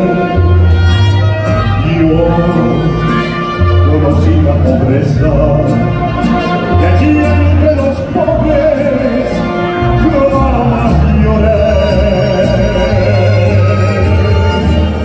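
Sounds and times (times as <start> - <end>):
trumpets: 0.0 - 4.8, 5.4 - 15.0
deep bass line: 0.0 - 15.0
mariachi band playing: 0.0 - 15.0
strummed guitar beat: 0.0 - 15.0
violins: 0.0 - 15.0.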